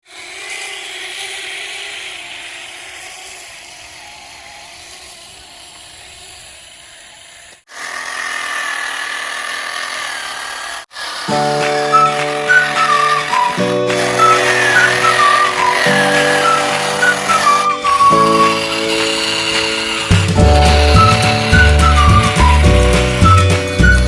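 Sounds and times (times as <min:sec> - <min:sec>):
small electric motor whirring: 0:00.0 - 0:24.0.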